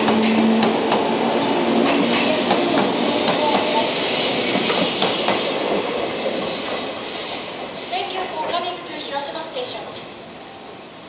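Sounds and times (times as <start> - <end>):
electric train rolling rumble: 0.0 - 11.0.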